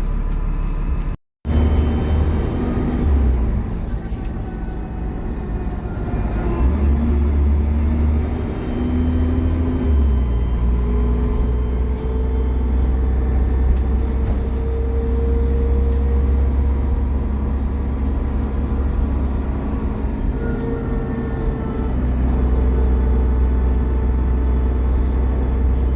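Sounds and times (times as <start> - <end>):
bus engine rumbling under load: 0.0 - 25.9.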